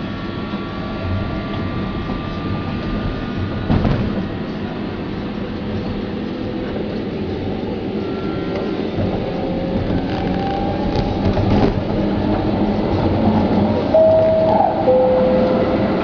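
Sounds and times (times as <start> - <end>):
metro train rumbling on rails: 0.0 - 16.0.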